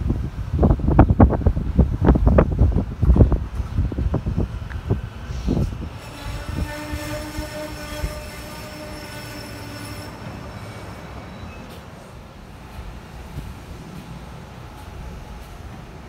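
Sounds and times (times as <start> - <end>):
train low rumble: 0.0 - 16.0
wind gusts on microphone: 0.0 - 16.0
electric train whine: 2.8 - 16.0.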